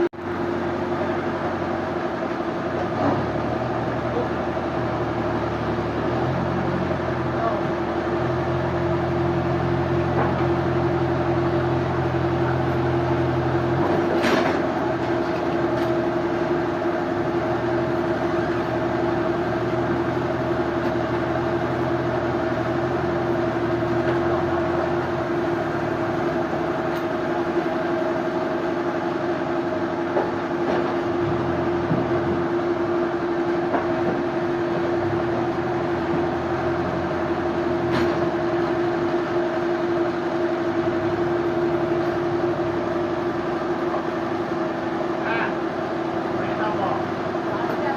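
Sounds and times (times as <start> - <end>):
sawmill machinery humming: 0.0 - 47.9.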